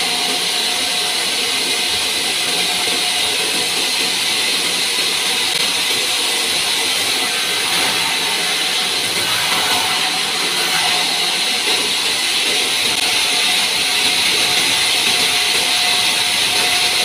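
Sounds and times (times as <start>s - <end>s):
band saw cutting log: 0.0s - 17.0s.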